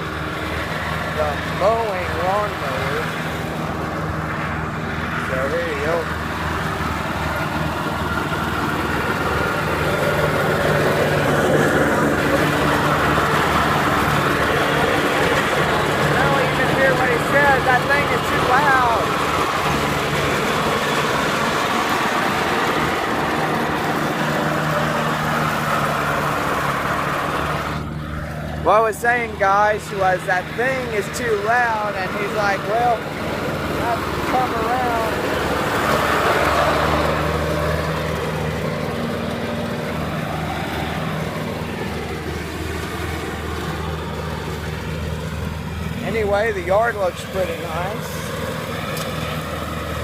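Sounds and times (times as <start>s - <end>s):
lawnmower engine running: 0.0s - 50.0s.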